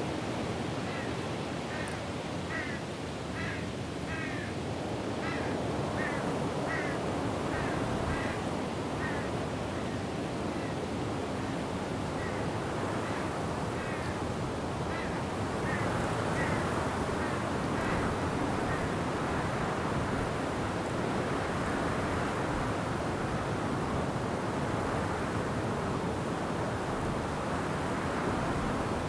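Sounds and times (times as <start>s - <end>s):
wind rushing through trees: 0.0s - 29.0s.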